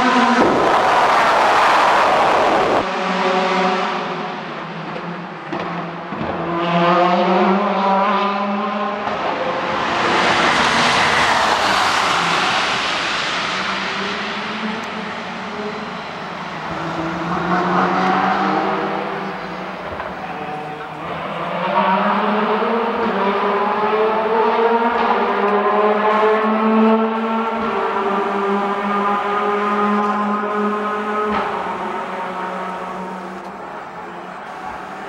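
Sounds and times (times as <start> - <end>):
race cars passing at speed: 0.0 - 35.0.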